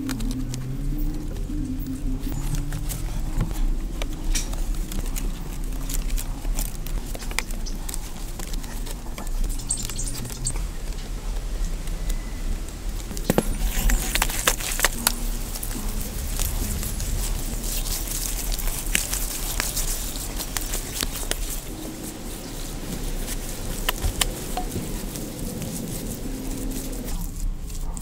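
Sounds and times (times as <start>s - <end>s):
bamboo strips clicking and rustling: 0.0s - 28.0s.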